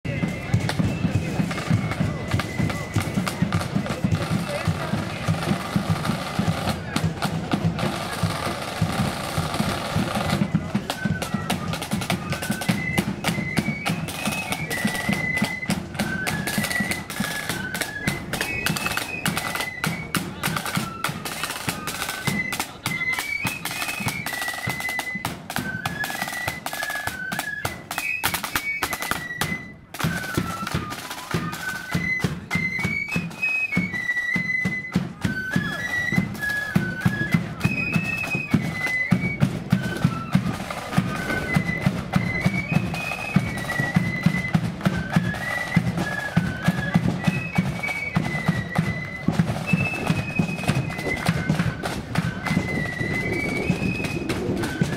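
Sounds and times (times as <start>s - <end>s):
flute melody: 0.0s - 54.9s
snare drum strokes: 0.1s - 54.9s.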